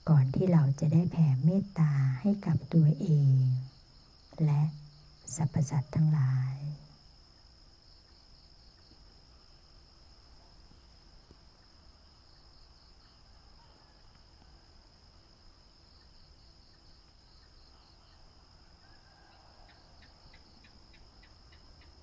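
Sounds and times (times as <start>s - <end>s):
crickets trilling: 0.0s - 22.0s
rhythmic insect chirping: 0.0s - 22.0s.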